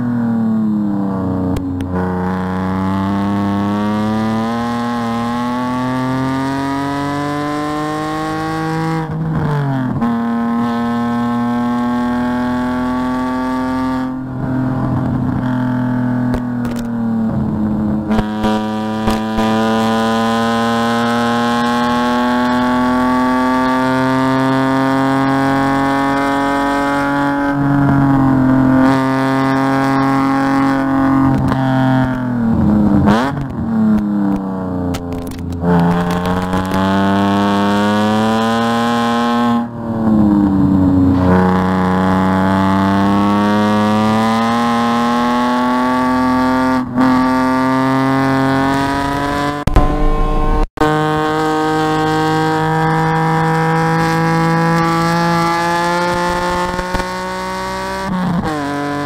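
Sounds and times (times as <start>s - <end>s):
race car engine revving: 0.9s - 59.0s.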